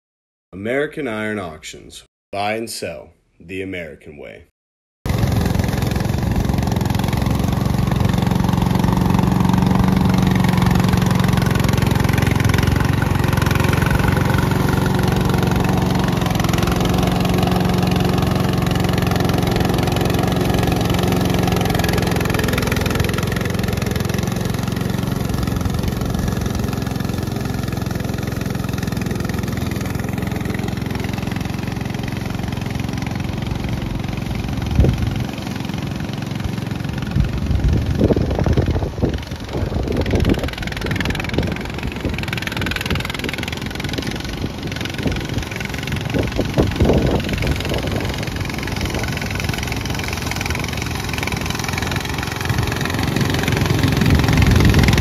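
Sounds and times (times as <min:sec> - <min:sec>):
mower petrol engine running: 0:05.1 - 0:55.0.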